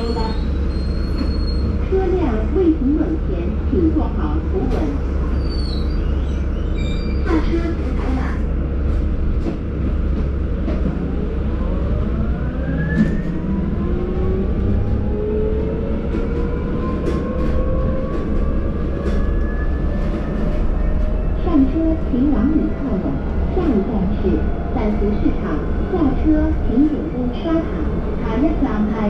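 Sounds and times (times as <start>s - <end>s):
bus drive whine: 0.0s - 28.9s
bus road and engine rumble: 0.0s - 29.0s.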